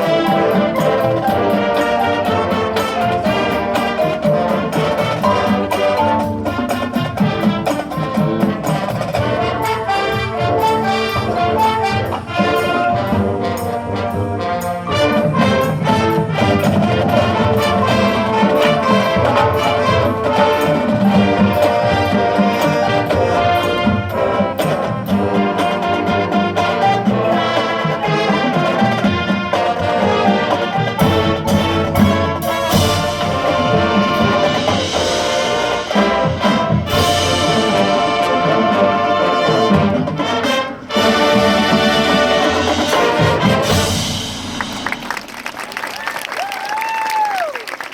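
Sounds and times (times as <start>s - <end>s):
brass band playing: 0.0s - 46.8s
percussion hits: 0.0s - 47.9s.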